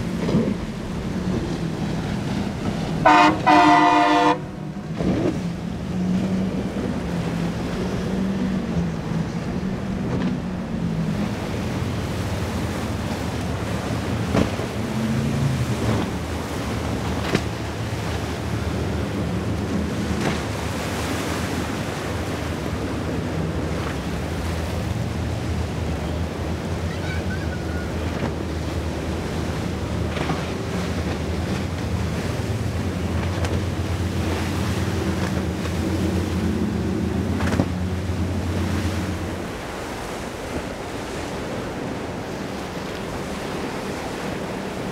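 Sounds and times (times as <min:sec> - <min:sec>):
boat engine drone: 0:00.0 - 0:44.9
wave wash: 0:00.0 - 0:44.9.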